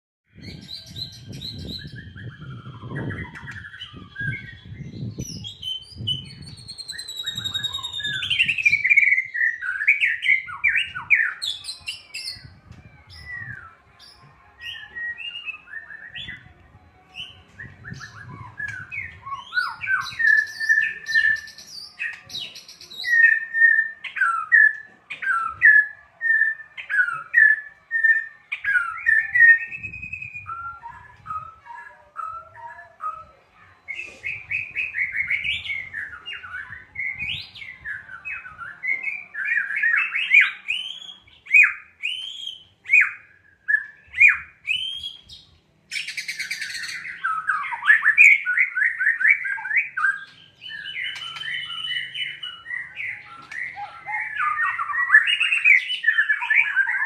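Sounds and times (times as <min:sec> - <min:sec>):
bird singing whistles: 0:00.3 - 0:16.5, 0:17.1 - 0:57.0.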